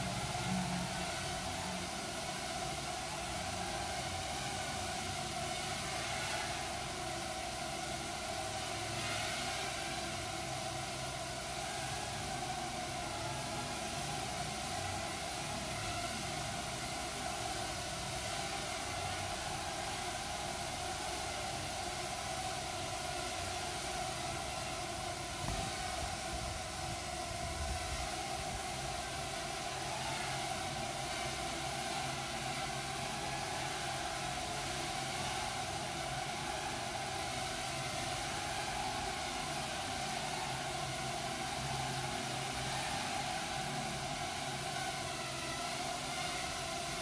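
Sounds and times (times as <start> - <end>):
constant hiss: 0.0 - 47.0
quadcopters buzzing: 0.0 - 47.0.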